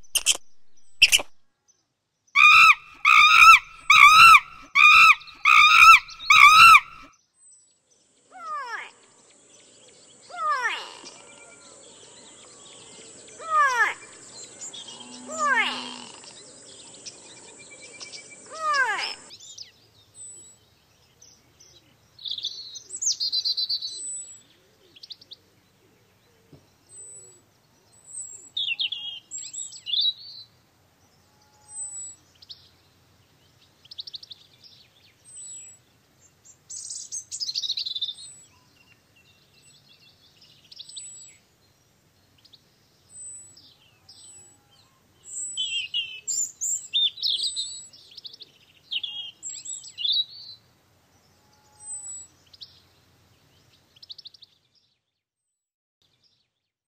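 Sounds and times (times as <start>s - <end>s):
songbirds chirping and trilling: 0.0s - 55.2s.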